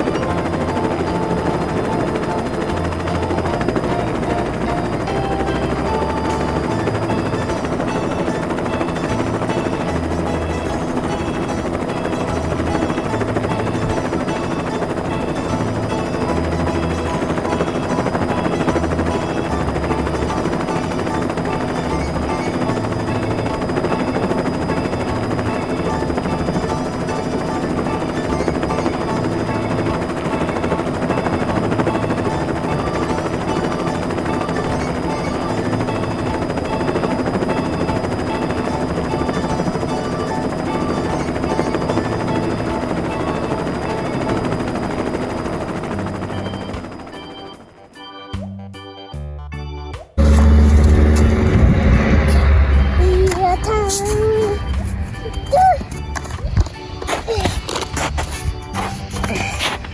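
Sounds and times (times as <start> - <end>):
helicopter rotor chopping: 0.0 - 48.2, 50.1 - 59.9.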